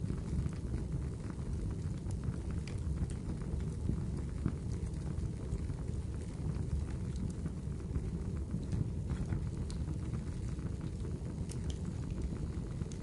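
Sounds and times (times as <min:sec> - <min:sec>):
low rumble of flames: 0:00.0 - 0:13.0
wood fire pops and snaps: 0:00.4 - 0:13.0.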